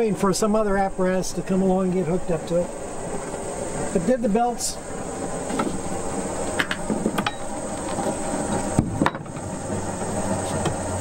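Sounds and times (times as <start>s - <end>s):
drive belt clicking on pulleys: 0.0s - 11.0s.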